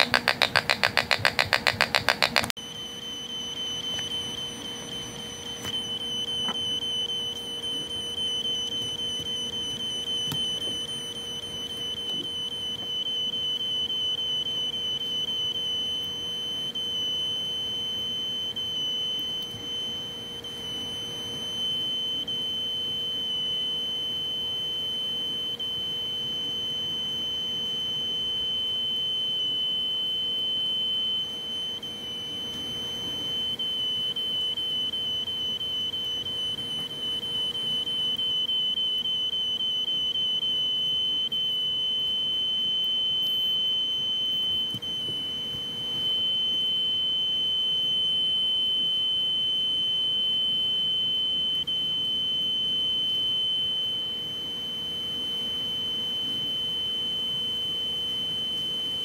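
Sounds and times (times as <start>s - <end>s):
high-pitched buzzer tone: 0.0s - 59.0s.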